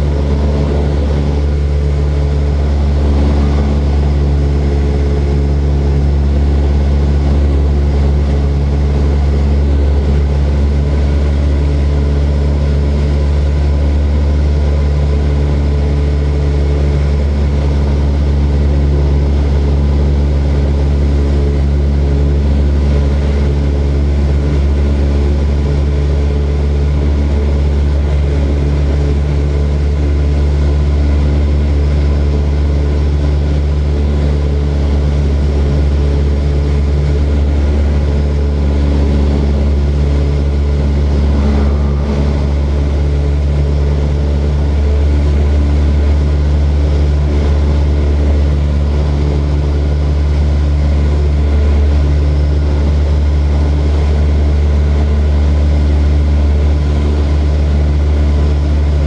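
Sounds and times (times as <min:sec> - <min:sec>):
propeller airplane engine droning: 0:00.0 - 0:59.0.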